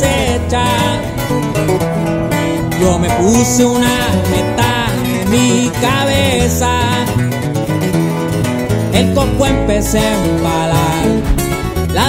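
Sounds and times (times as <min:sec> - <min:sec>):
plucked guitars: 0:00.0 - 0:12.0.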